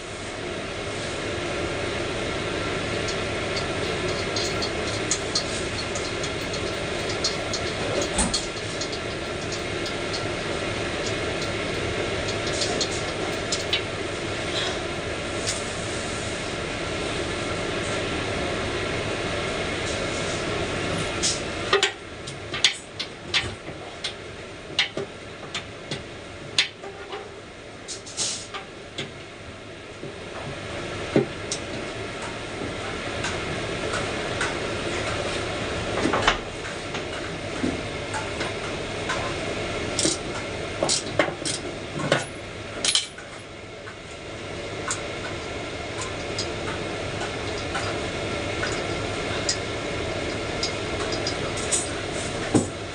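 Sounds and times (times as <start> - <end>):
steady background noise: 0.0 - 52.9.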